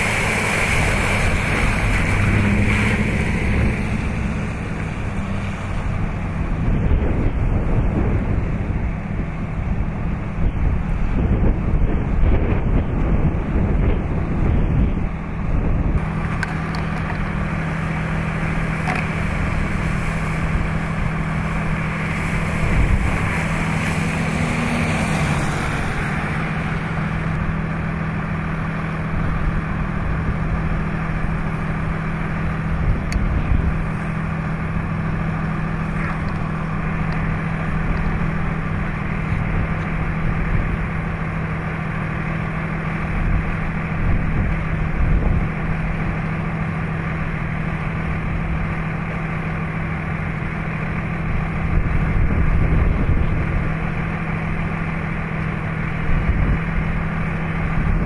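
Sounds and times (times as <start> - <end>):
low motor hum: 0.0 - 58.0
wind rumbling on microphone: 0.0 - 58.0.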